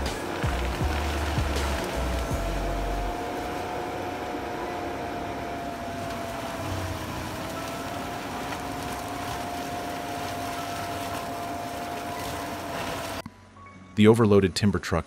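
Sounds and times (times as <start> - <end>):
heavy machine whining: 0.0 - 13.2.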